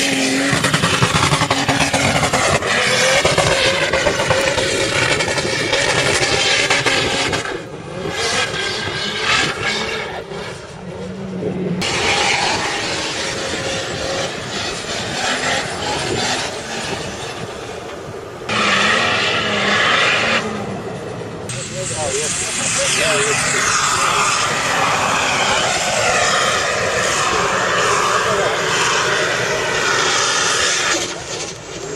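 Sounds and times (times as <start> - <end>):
suv engines revving hard: 0.0 - 31.9.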